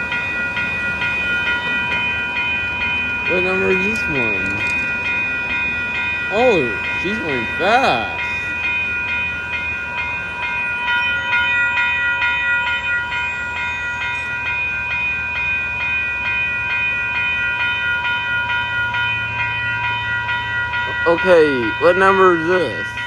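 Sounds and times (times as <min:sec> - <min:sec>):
crossing bell ringing: 0:00.0 - 0:23.0
train rumbling past: 0:00.0 - 0:23.0.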